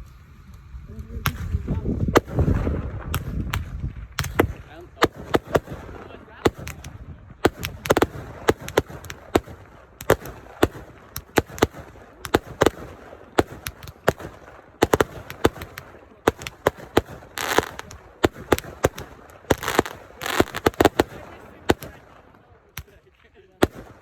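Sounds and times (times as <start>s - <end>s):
fireworks crackling bursts: 0.0s - 24.0s
fireworks sharp bangs: 1.1s - 24.0s.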